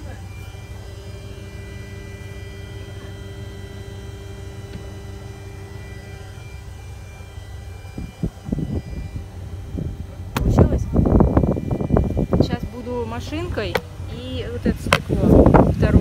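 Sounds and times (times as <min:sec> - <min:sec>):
faint held tone: 0:00.0 - 0:16.0
low mechanical hum: 0:00.0 - 0:16.0.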